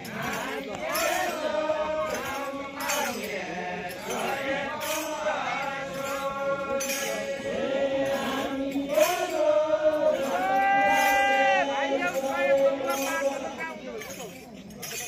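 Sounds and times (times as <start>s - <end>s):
men singing a slow chant: 0.0s - 14.2s.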